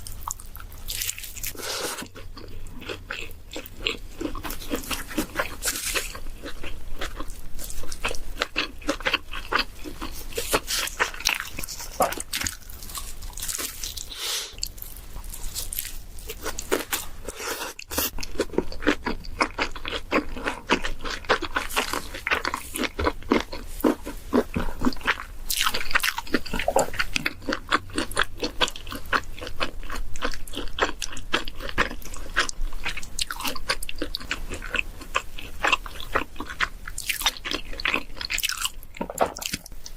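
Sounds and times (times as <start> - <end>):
biting and chewing crisp food: 0.0 - 39.9.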